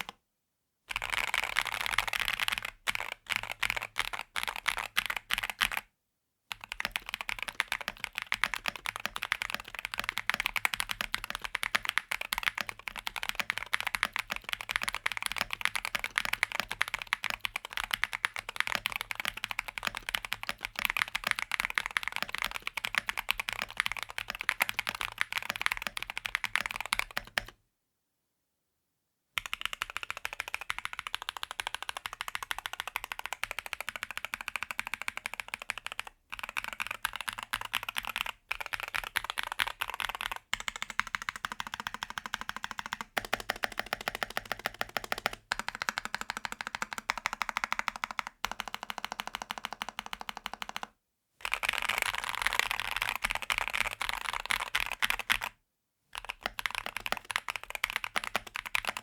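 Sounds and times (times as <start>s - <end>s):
fast typing on mechanical keyboard: 0.9s - 5.8s, 6.5s - 27.6s, 29.4s - 55.6s, 56.2s - 59.0s.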